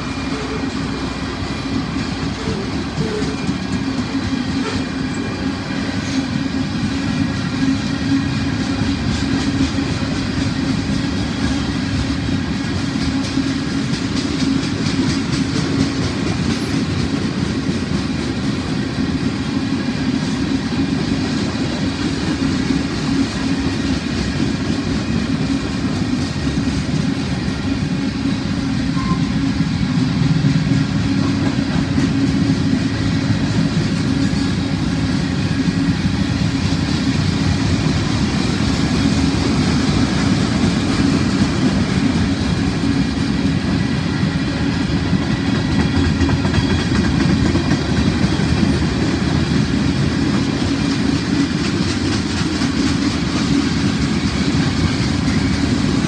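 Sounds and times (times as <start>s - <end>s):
wheels clacking over rail joints: 0.0s - 18.9s, 29.9s - 56.0s
freight train rumbling past: 0.0s - 56.0s.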